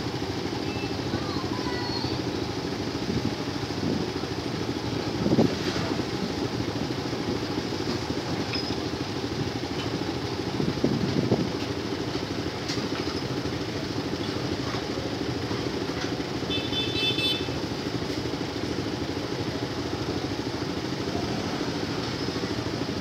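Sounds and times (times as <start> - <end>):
motorbike engines idling: 0.0 - 23.0
train wheels rumbling on rails: 0.2 - 16.4, 17.8 - 23.0.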